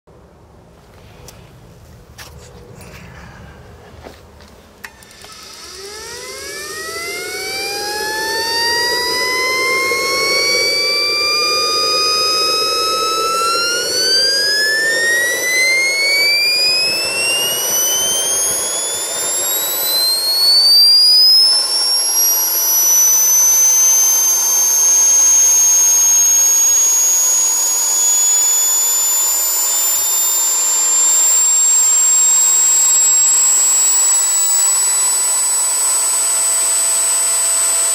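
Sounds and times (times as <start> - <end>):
jet turbine whine rising: 1.6 - 37.9
turbine air rushing: 2.5 - 37.9.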